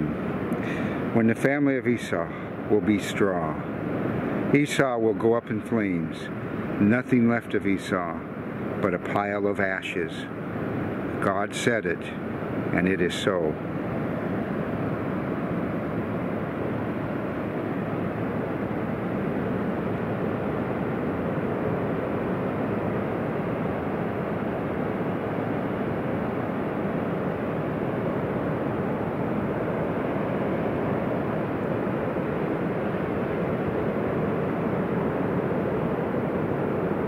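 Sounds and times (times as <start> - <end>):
ocean surf on sandy beach: 0.0 - 37.0.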